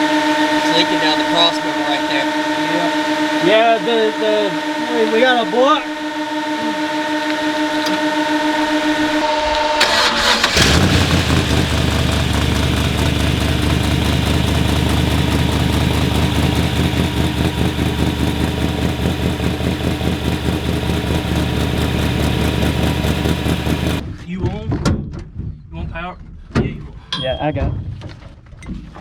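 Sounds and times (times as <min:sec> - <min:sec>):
starter motor whine: 0:00.0 - 0:24.0
truck engine idling: 0:00.0 - 0:24.0.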